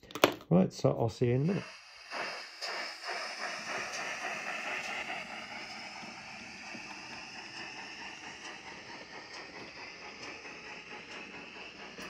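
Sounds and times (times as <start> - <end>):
model steam locomotive hissing: 0.8 - 12.0.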